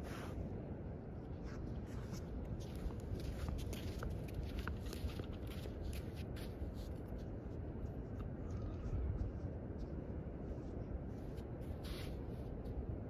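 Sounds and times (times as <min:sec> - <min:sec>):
low wind rumble on microphone: 0:00.0 - 0:13.0
footstep scuffs: 0:01.4 - 0:12.9.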